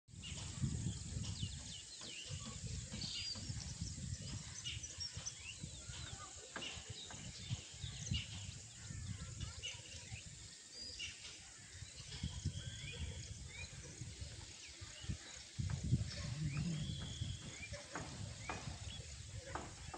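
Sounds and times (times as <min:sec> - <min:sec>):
wind rumble on microphone: 0:00.1 - 0:10.5, 0:11.5 - 0:19.9
small birds chirping: 0:00.1 - 0:19.9.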